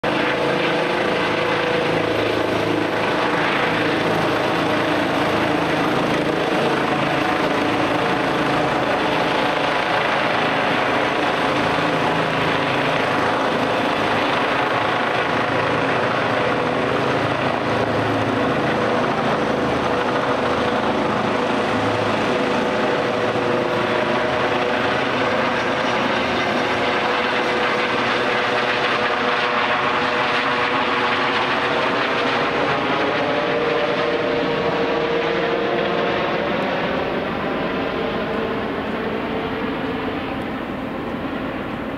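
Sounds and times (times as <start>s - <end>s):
helicopter rotor beating: 0.0s - 41.9s
helicopter turbine whine: 0.0s - 41.9s.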